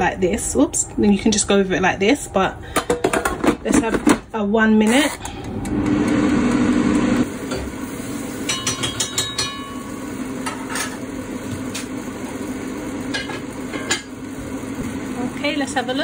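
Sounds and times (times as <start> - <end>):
air fryer fan humming: 0.0 - 16.0.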